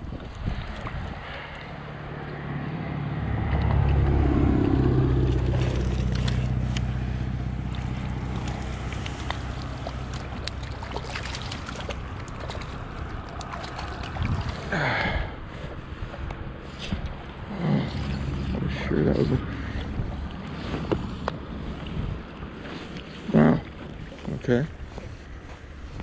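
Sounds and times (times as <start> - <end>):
constant rushing noise: 0.0 - 26.0
low engine hum: 0.0 - 26.0.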